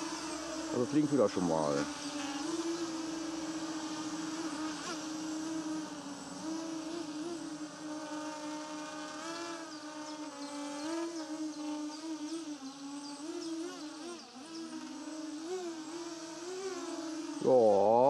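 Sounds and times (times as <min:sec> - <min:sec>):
quadcopter motors buzzing: 0:00.0 - 0:18.0.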